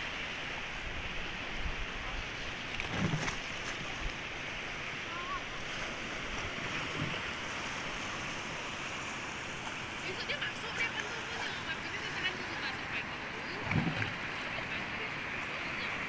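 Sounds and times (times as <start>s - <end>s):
waves washing onto beach: 0.0s - 16.0s.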